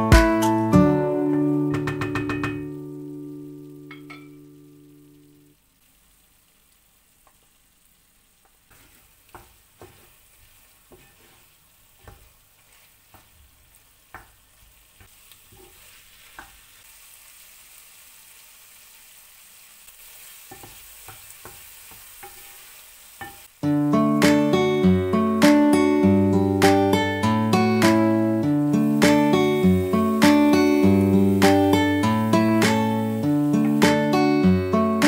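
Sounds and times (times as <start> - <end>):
soft hiss: 2.5 - 35.0.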